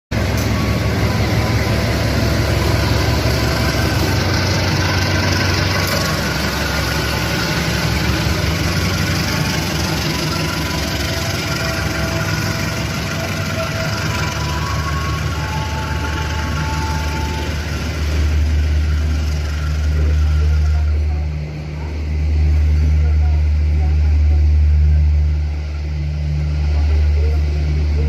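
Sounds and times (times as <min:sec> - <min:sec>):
diesel locomotive engine humming: 0:00.1 - 0:28.0.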